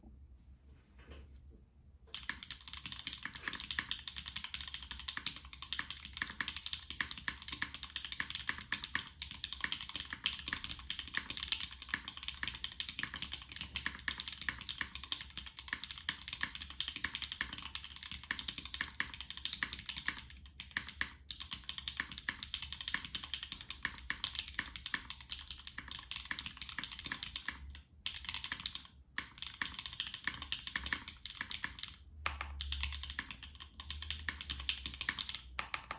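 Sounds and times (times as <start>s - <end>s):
mechanical keyboard typing: 2.1s - 35.9s.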